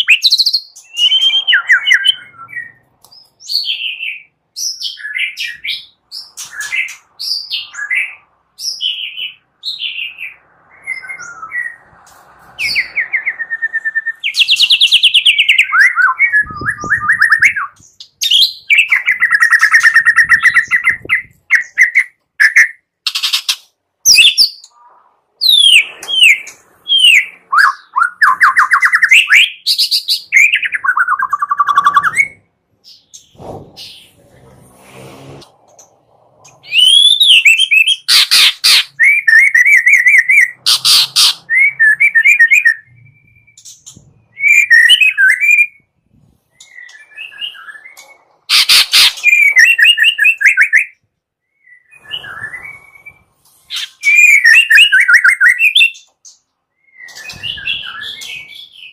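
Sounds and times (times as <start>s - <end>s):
songbird singing whistles and chirps: 0.0s - 34.1s, 36.4s - 58.9s.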